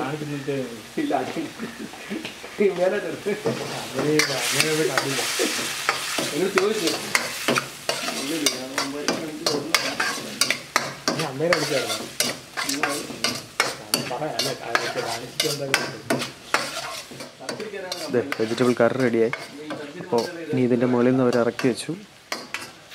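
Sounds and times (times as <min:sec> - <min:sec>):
frying sizzle: 0:00.0 - 0:22.9
ladle scraping wok: 0:03.5 - 0:22.9.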